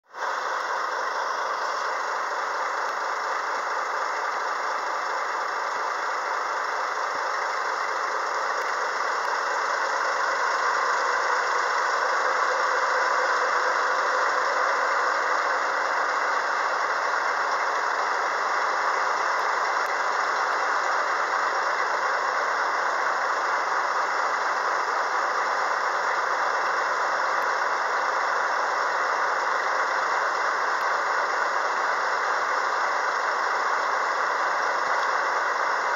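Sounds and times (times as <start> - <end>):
diesel locomotive idling: 0.0 - 35.9.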